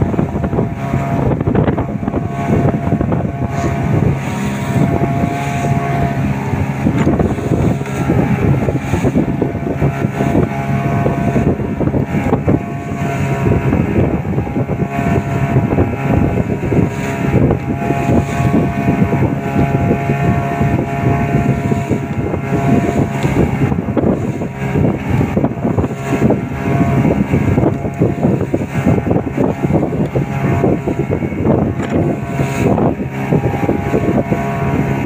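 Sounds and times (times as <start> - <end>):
motorboat engine humming: 0.0 - 35.0
water splashing against hull: 0.0 - 35.0
wind noise on microphone: 0.0 - 35.0.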